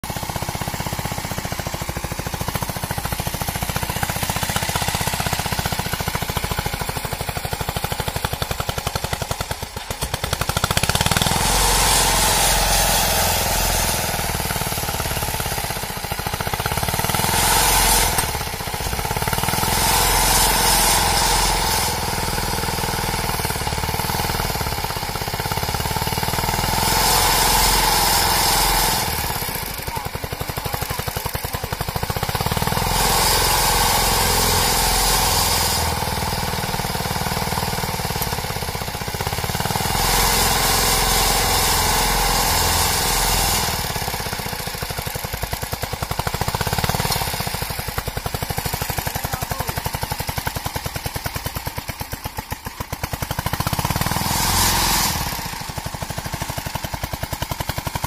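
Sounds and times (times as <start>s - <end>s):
small engine chugging: 0.0s - 58.0s.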